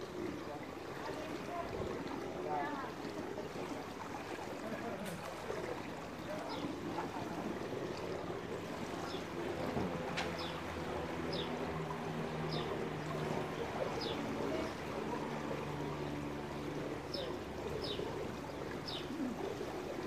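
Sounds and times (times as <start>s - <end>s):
faint water sounds: 0.0s - 20.0s.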